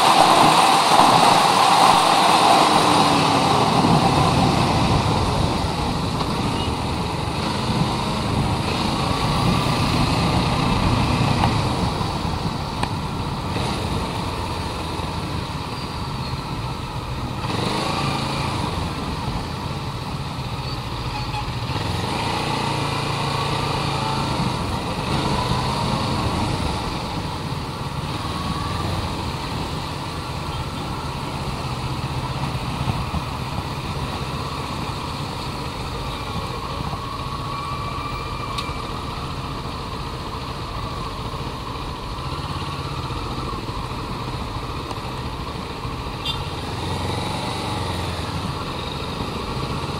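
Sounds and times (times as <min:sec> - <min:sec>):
motorcycle engine running: 0:00.0 - 0:49.9
road and wind noise: 0:00.0 - 0:49.9.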